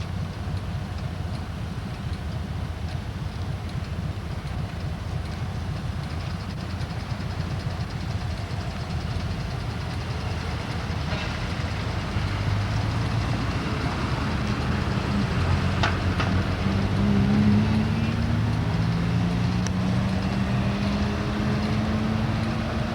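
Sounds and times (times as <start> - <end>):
diesel engine droning: 0.0 - 22.9.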